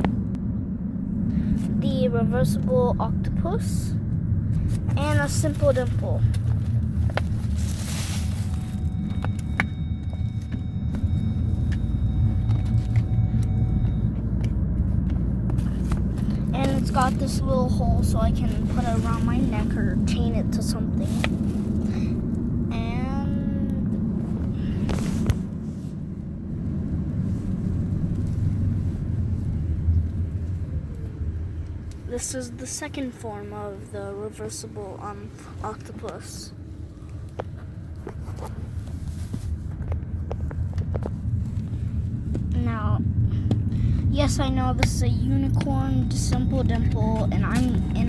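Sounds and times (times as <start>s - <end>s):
low rumble: 0.0s - 48.0s.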